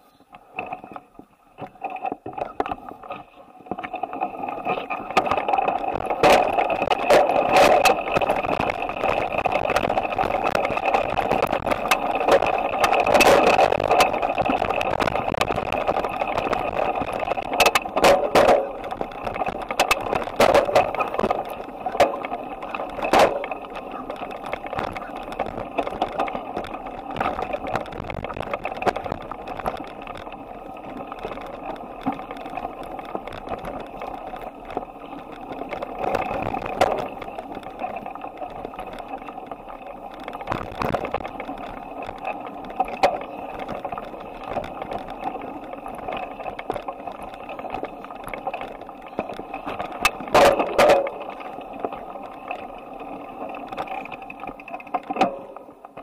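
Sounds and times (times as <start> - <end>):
bicycle rattling and clicking: 0.0 - 56.0.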